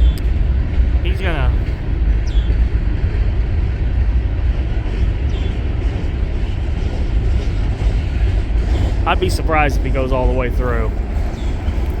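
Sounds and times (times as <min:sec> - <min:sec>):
freight train rumbling by: 0:00.0 - 0:12.0.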